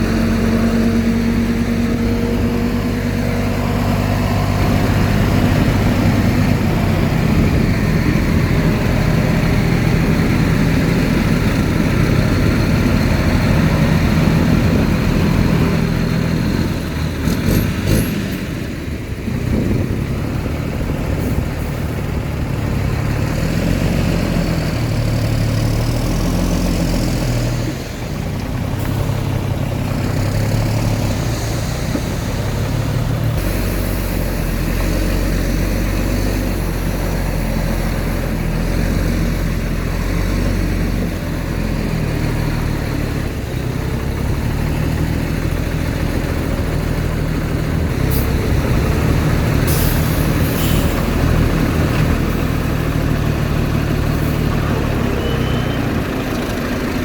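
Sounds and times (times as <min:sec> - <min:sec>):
heavy machinery engine drone: 0:00.0 - 0:57.0.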